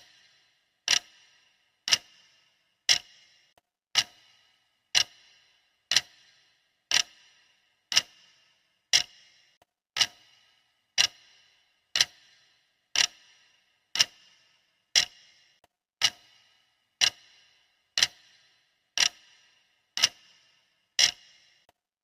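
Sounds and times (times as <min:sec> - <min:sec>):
clock ticking: 0:00.0 - 0:21.8.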